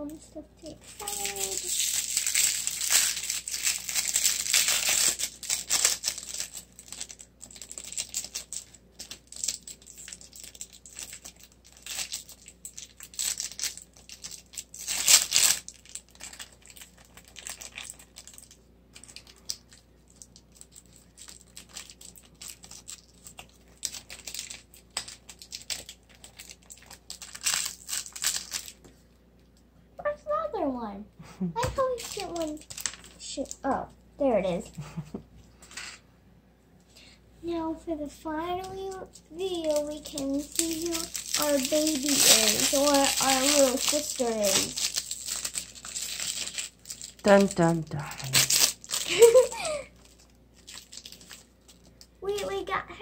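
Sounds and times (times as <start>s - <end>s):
plastic packaging crinkling: 0.0s - 29.0s, 31.8s - 33.8s, 38.4s - 52.8s.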